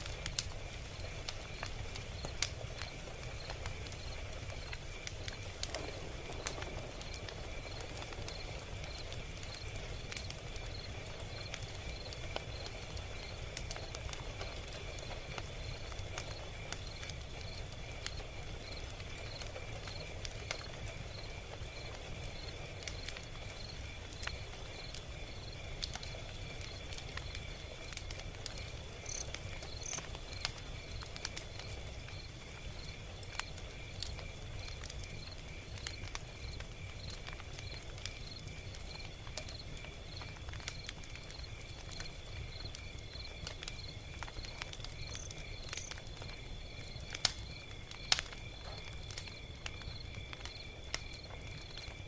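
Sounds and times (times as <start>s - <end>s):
log fire crackling: 0.0s - 52.0s.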